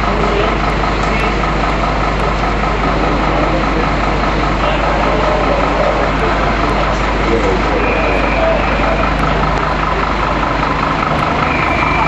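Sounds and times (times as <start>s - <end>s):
fire engine motor pumping water: 0.0s - 12.0s.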